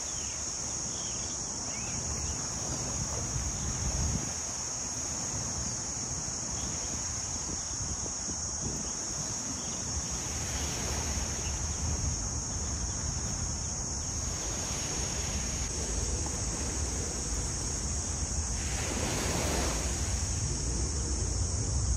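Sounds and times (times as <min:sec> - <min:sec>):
small waves washing on beach: 0:00.0 - 0:21.9
wind buffeting microphone: 0:01.0 - 0:21.9.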